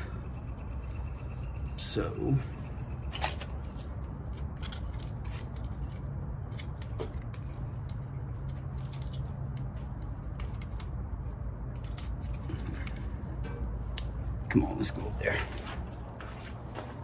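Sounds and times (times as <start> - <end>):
steady low hum: 0.0 - 17.0
clicks and scratches of louvers: 0.2 - 14.5.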